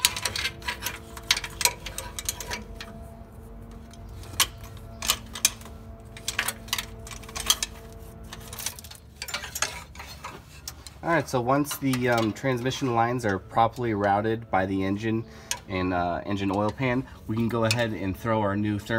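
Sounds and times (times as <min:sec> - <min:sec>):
metal lines clicking and knocking: 0:00.0 - 0:14.5, 0:15.4 - 0:18.3
faint steady hum: 0:00.0 - 0:18.9.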